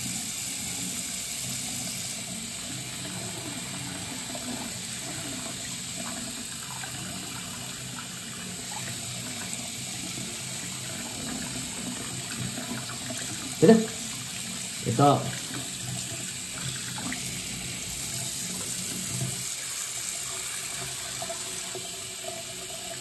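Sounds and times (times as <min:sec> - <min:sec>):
tap water running and splashing: 0:00.0 - 0:23.0.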